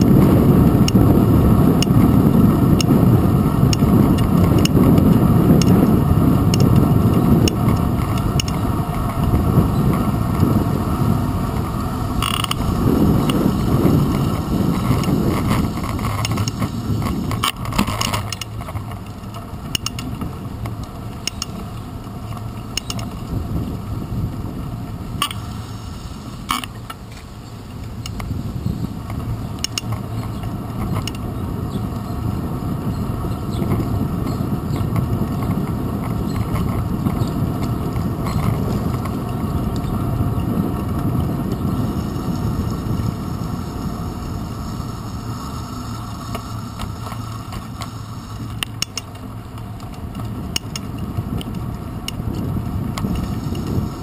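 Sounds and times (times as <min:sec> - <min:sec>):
bicycle rattling and clicking: 0:00.0 - 0:54.0
rumble of tyres road and wind: 0:00.0 - 0:54.0.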